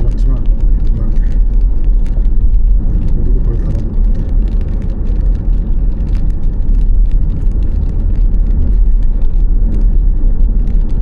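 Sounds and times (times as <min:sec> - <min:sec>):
road rumble and tyre noise: 0:00.0 - 0:11.0.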